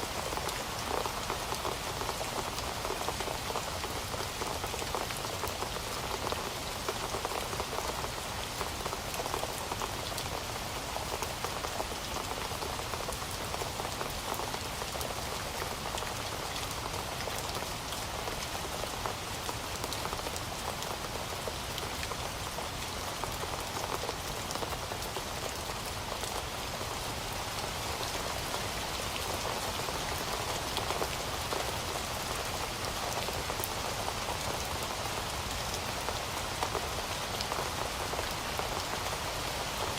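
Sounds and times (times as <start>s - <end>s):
heavy rain on hard surface: 0.0s - 39.9s.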